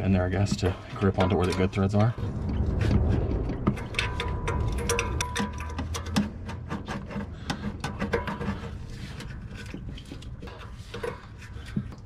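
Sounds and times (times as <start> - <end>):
metal clicking and rubbing on metal: 0.0 - 12.0.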